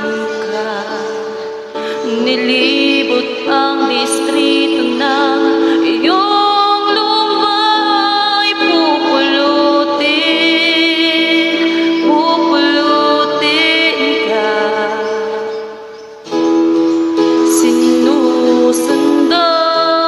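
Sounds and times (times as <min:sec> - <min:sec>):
woman singing with vibrato: 0:00.0 - 0:15.9, 0:17.3 - 0:20.0
backing track music: 0:00.0 - 0:20.0.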